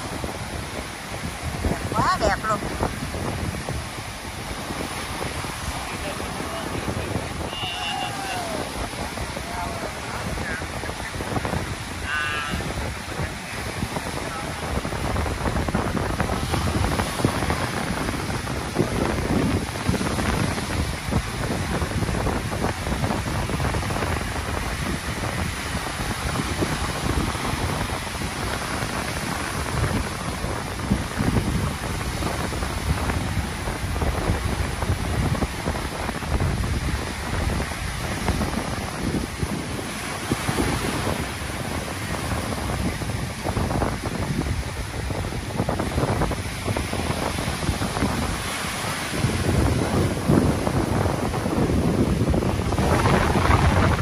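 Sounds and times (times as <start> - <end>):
surf breaking on beach: 0.0 - 54.0
wind rumbling on microphone: 0.0 - 54.0.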